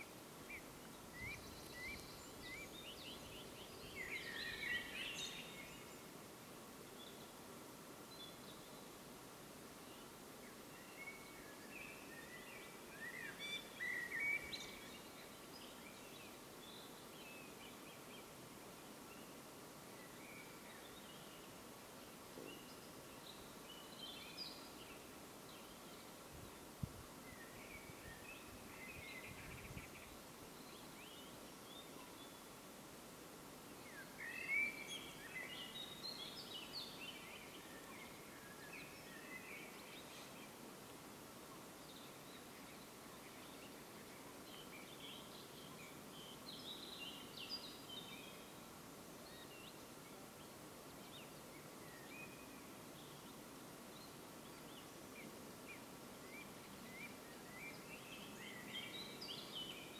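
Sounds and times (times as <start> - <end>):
quiet outdoor hiss: 0.0 - 59.9
songbirds singing: 0.0 - 59.9.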